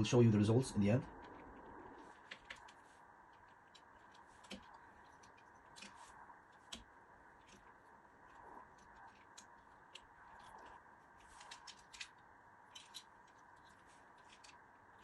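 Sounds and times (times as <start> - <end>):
plastic parts clicking and tapping: 1.1 - 7.7, 8.7 - 15.0.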